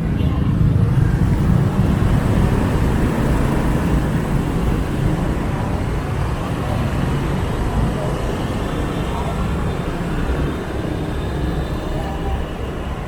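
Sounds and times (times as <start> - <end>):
surrounding traffic: 0.0 - 13.0.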